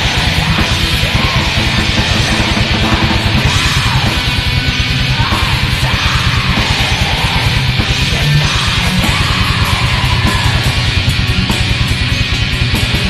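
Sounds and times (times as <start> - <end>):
distorted electric guitars: 0.0 - 13.0
fast kick-drum blasting: 0.0 - 13.0.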